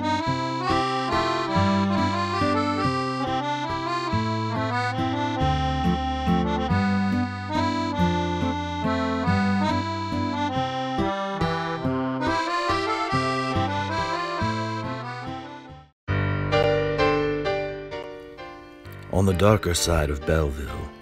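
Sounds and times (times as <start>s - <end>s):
instrumental music of held chords: 0.0s - 21.0s.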